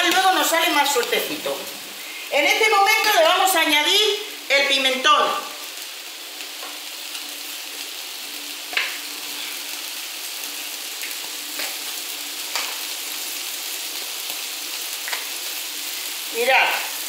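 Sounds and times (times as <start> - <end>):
rice and seafood sizzling in oil: 0.0 - 17.0.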